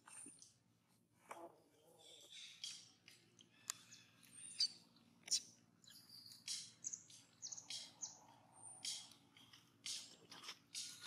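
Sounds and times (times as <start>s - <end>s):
small birds chirping: 1.3s - 11.0s.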